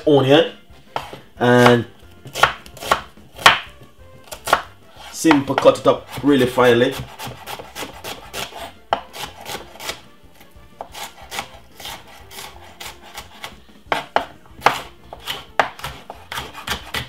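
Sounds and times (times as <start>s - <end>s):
knife chopping on wooden board: 0.9s - 10.1s, 10.7s - 17.0s.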